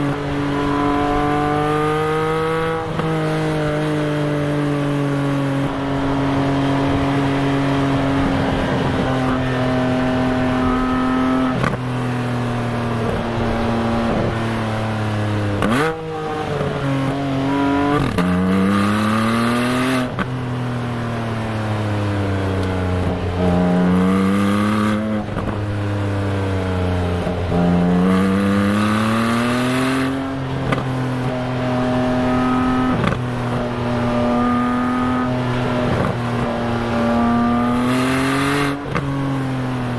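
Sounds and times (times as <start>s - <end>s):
car exhaust burbling and revving: 0.0s - 39.9s.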